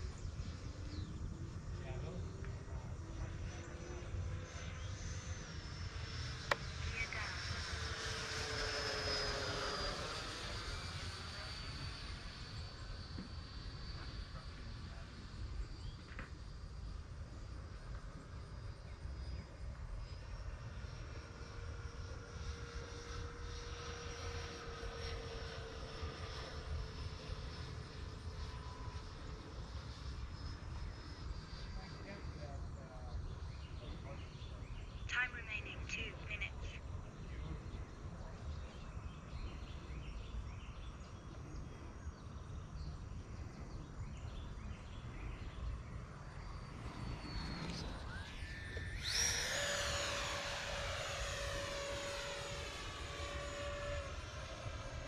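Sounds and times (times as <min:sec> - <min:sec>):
distant electric jet fan whine: 0:00.0 - 0:55.0.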